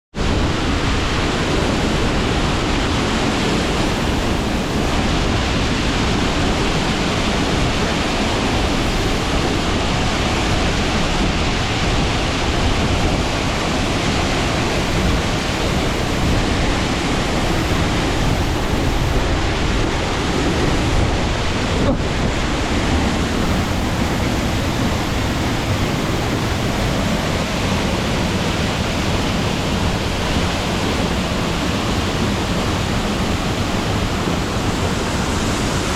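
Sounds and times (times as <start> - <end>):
waterfall rushing: 0.2 - 35.9.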